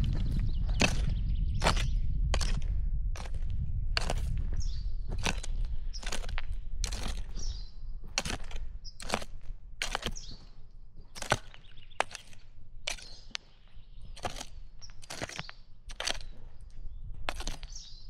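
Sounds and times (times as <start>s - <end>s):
hand tool chopping soil: 0.0s - 18.0s.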